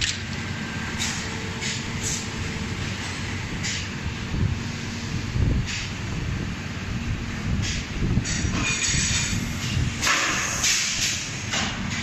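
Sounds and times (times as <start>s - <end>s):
machine low mechanical hum: 0.0s - 12.0s.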